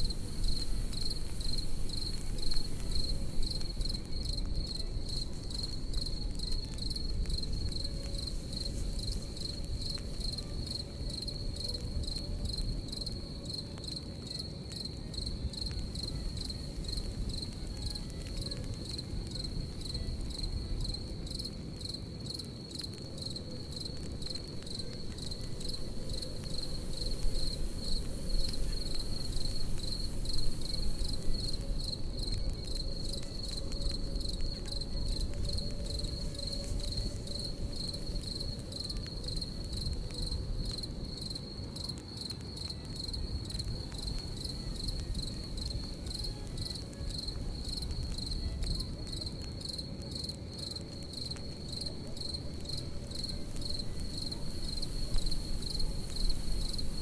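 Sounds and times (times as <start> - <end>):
campfire crackling: 0.0 - 57.0
crickets chirping: 0.0 - 57.0.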